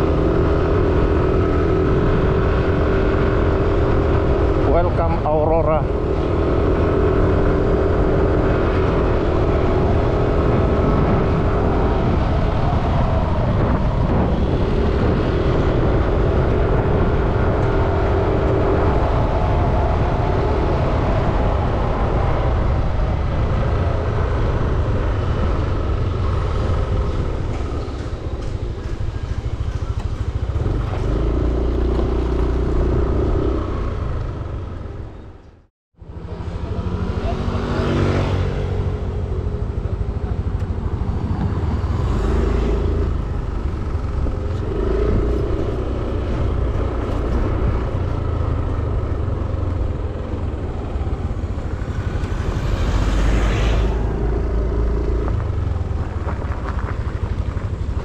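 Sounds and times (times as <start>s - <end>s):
motorcycle engine hum: 0.0s - 58.0s
wind and road noise: 0.0s - 58.0s.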